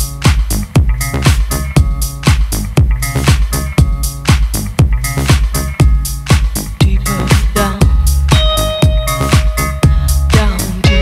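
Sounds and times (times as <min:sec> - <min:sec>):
bass line: 0:00.0 - 0:11.0
dance-pop music: 0:00.0 - 0:11.0
steady kick drum: 0:00.0 - 0:11.0.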